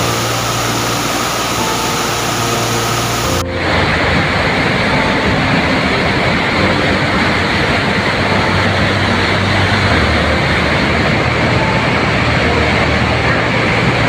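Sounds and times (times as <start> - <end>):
deep rumble: 0.0 - 14.0.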